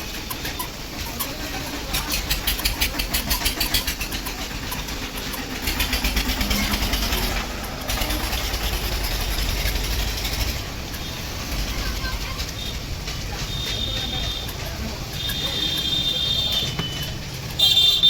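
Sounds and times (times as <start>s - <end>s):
small petrol engine pulsing: 0.0s - 18.0s.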